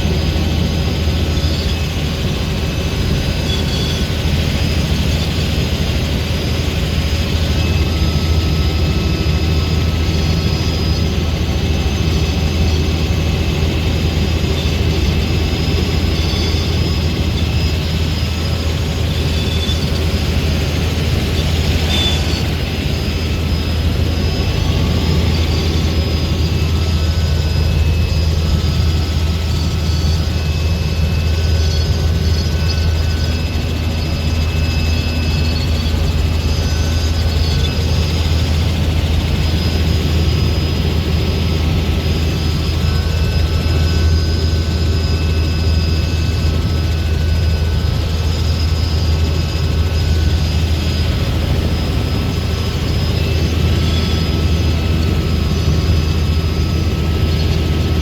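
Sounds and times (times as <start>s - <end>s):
helicopter flying: 0.0s - 58.0s.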